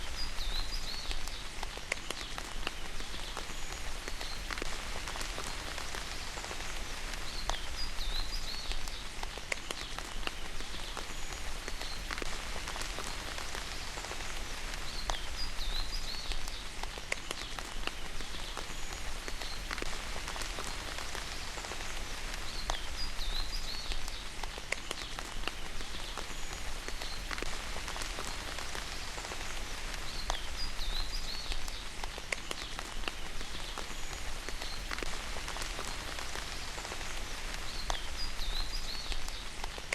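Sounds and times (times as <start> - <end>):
raindrops tapping: 0.0 - 39.9
steady rain: 0.0 - 39.9.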